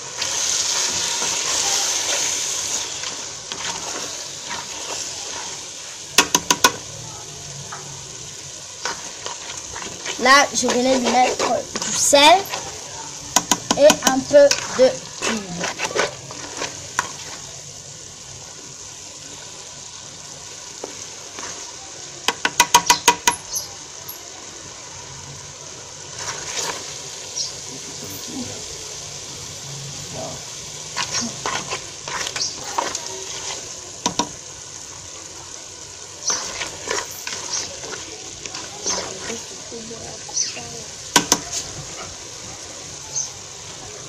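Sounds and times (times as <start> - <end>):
food sizzling in pot: 0.0 - 44.0.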